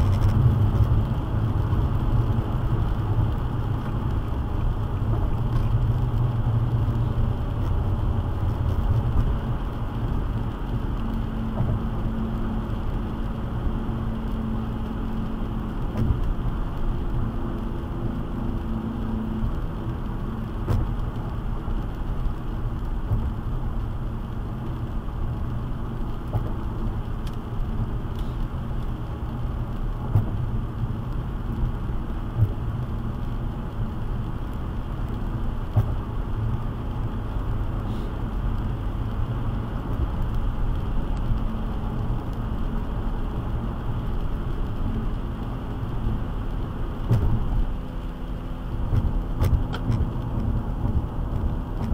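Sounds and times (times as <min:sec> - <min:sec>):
tyres and engine rumble: 0:00.0 - 0:51.9.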